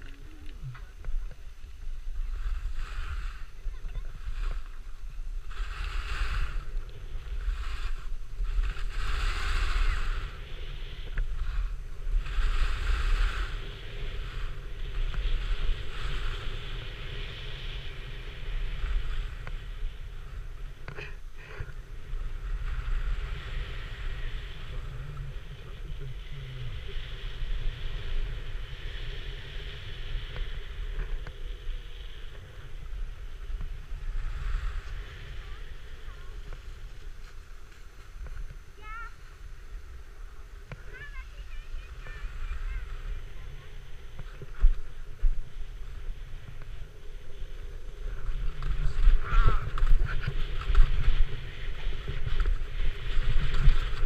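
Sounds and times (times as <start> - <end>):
skis hissing over snow: 0.0 - 54.0
wind rumbling on microphone: 0.0 - 54.0.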